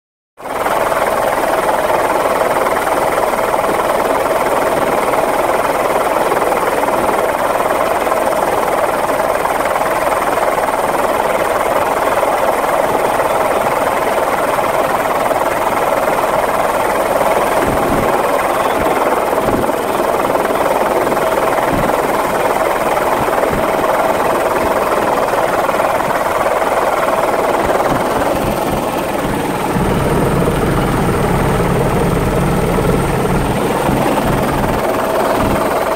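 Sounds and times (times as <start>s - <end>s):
deep helicopter rotor sound: 0.4s - 35.9s
helicopter turbine drone: 0.4s - 35.9s.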